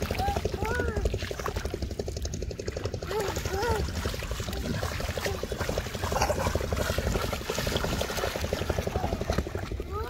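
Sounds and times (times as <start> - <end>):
feet splashing in water: 0.0 - 10.0.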